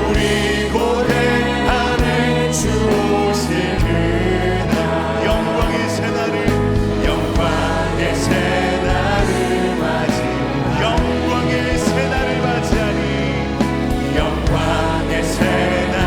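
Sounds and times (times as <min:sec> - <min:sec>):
live praise band playing: 0:00.0 - 0:16.0
people singing: 0:00.0 - 0:16.0.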